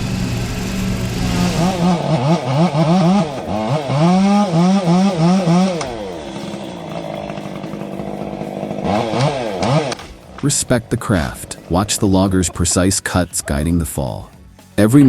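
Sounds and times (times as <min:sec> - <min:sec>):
engine revving: 0:00.0 - 0:14.4.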